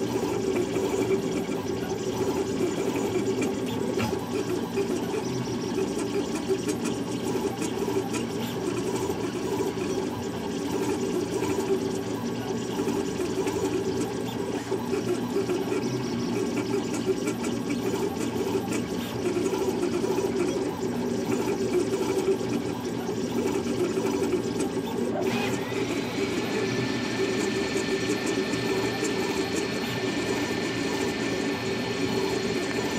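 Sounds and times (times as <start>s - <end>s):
printer stepper motors whirring: 0.0s - 32.9s.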